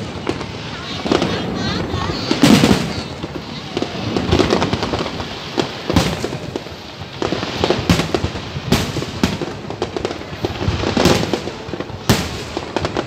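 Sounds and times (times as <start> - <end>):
crackle of small firework bursts: 0.0 - 13.0
firework shells bursting: 0.0 - 13.0.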